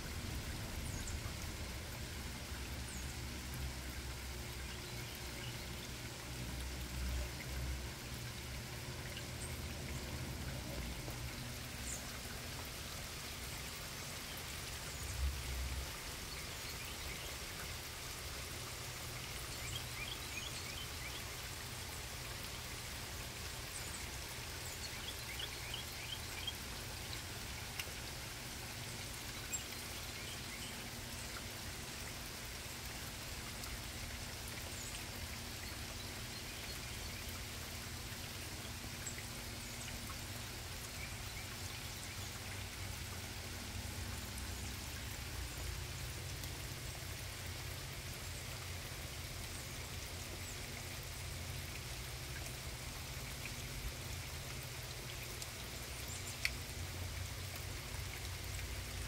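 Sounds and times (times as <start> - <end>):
rain falling on trees: 0.0 - 59.0.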